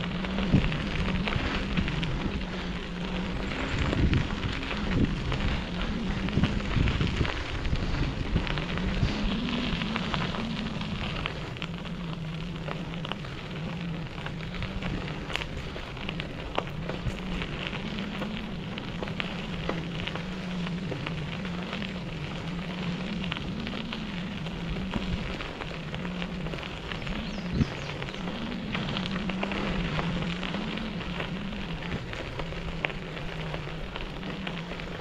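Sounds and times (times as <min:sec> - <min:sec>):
bicycle tyres rolling on gravel: 0:00.0 - 0:35.0
low hum: 0:00.0 - 0:35.0.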